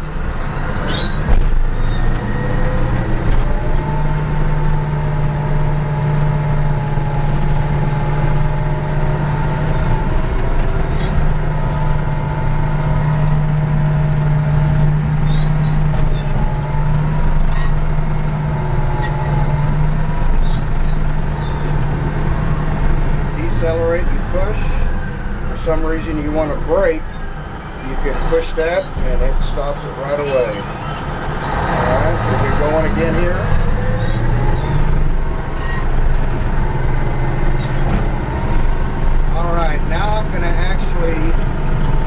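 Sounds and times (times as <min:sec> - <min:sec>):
bulldozer diesel engine droning: 0:00.0 - 0:42.0.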